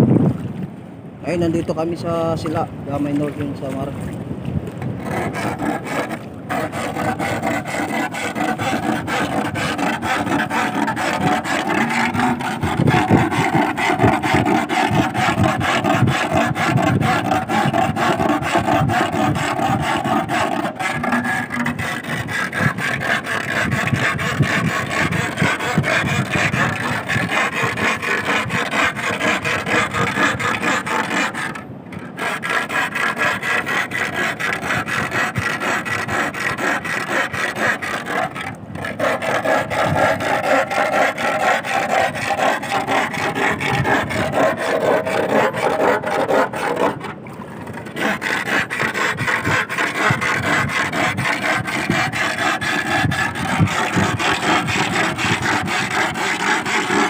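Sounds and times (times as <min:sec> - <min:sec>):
metal rod scraping iron plate: 0:05.0 - 0:57.0.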